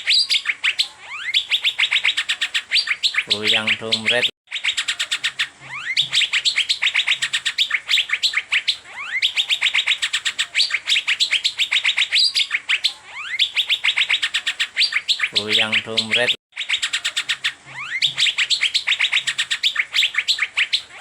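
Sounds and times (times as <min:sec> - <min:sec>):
bird singing fast sharp chirps: 0:00.0 - 0:21.0.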